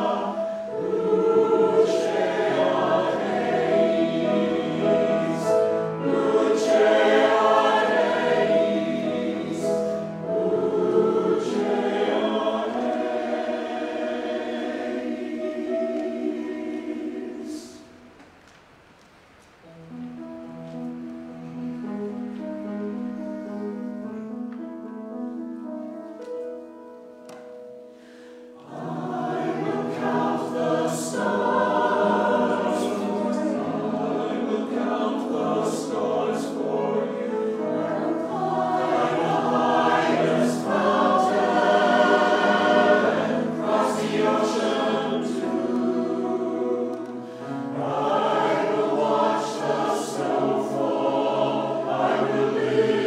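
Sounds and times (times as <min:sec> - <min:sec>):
church choir singing: 0:00.0 - 0:18.3, 0:27.3 - 0:53.0.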